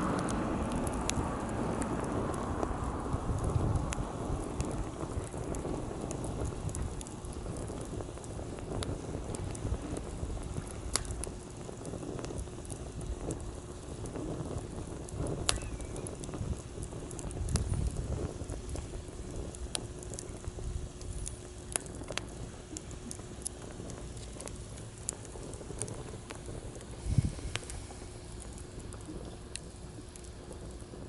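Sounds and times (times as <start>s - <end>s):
campfire crackling and popping: 0.0s - 31.0s
faint steady hum: 0.0s - 31.0s.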